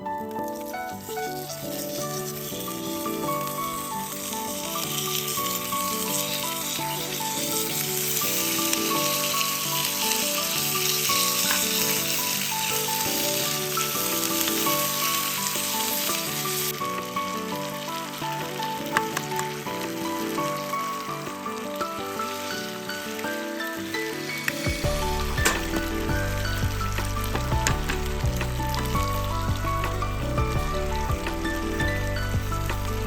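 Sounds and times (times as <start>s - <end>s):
background music: 0.0s - 33.0s
food sizzling in a frying pan: 0.4s - 33.0s.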